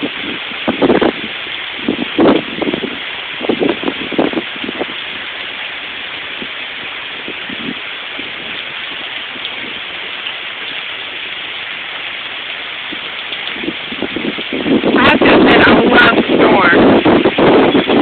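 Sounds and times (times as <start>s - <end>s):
heavy rain and wind: 0.0s - 18.0s.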